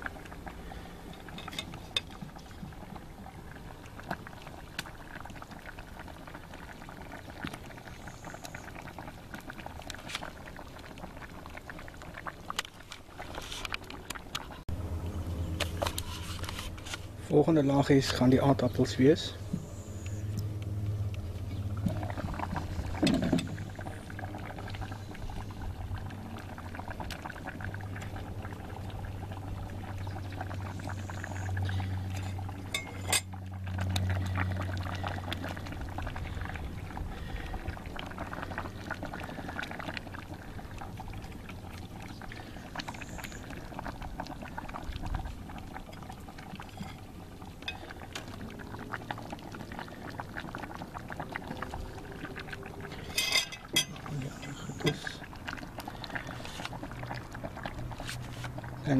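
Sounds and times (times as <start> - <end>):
stew bubbling and popping: 0.0 - 58.9.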